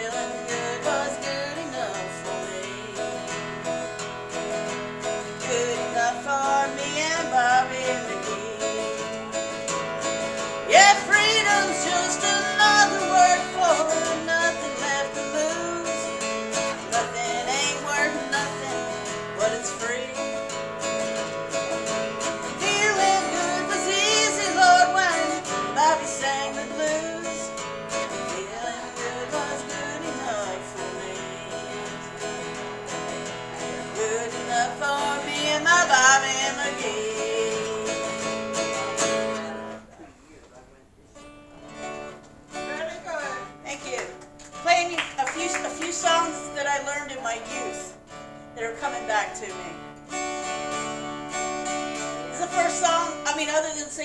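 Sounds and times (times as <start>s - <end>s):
woman singing: 0.0s - 39.8s, 43.4s - 48.0s, 52.1s - 54.0s
acoustic guitar strumming: 0.0s - 39.9s, 41.1s - 54.0s.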